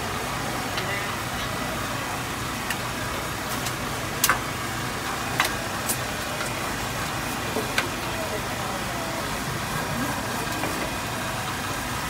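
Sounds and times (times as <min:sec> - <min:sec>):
steady engine-like hum: 0:00.0 - 0:12.0.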